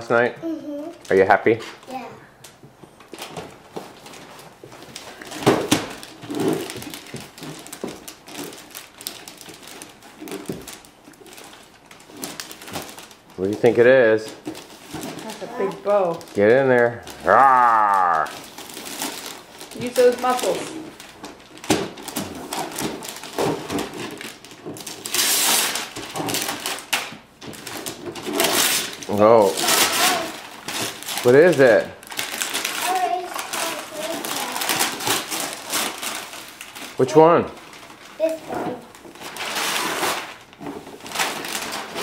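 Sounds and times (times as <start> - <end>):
wrapping paper rustling: 2.4 - 42.0.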